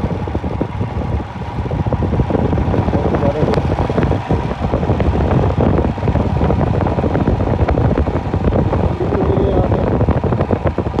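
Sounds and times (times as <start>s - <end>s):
vehicle rumbling: 0.0s - 11.0s
wind buffeting microphone: 0.0s - 11.0s.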